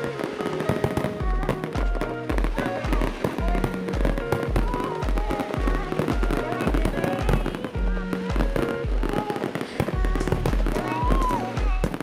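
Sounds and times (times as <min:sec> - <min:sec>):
fireworks bursting and crackling: 0:00.0 - 0:12.0
music with steady bass beat: 0:00.1 - 0:12.0.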